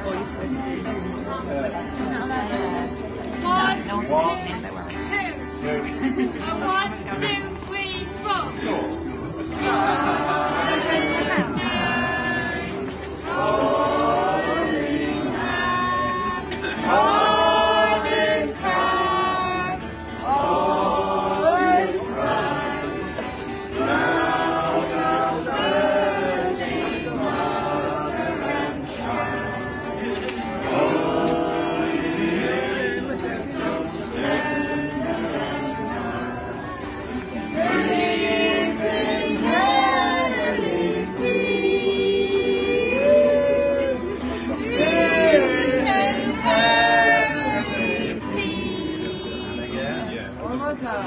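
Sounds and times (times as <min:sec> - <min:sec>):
group singing in chorus: 0:08.6 - 0:50.4.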